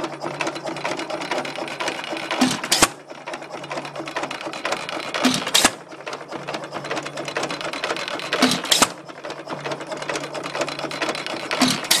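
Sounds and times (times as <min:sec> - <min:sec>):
engine clattering and firing: 0:00.0 - 0:12.0.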